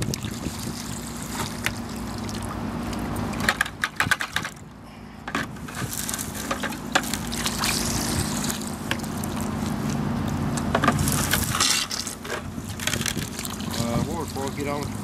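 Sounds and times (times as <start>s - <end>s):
water and slurry rushing and sloshing: 0.0s - 15.0s.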